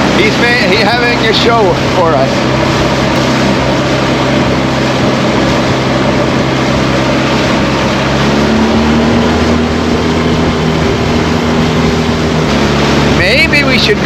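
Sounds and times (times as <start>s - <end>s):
motorboat engine running: 0.0s - 14.0s
wind and water noise: 0.0s - 14.0s.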